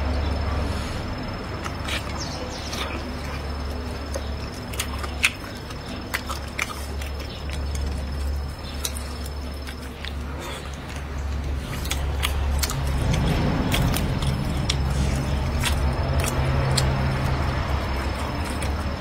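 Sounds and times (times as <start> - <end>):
steady low hum: 0.0 - 19.0
wet chewing and lip smacks: 1.5 - 19.0.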